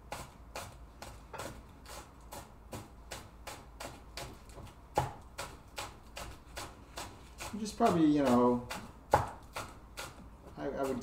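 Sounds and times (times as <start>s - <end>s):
knife chopping on wooden board: 0.1s - 11.0s.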